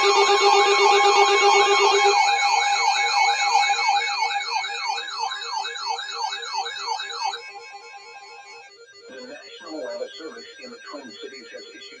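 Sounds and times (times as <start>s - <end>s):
electronic sirens yelping: 0.0s - 12.0s.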